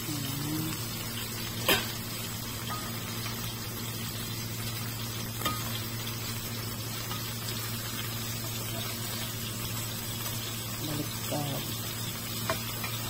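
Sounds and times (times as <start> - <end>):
patties sizzling in oil: 0.0 - 13.0.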